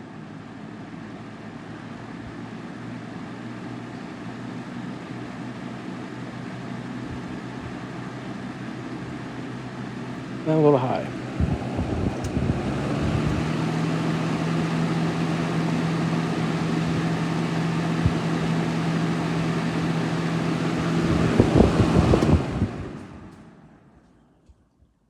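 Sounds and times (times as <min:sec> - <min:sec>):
box fan running: 0:00.0 - 0:24.5.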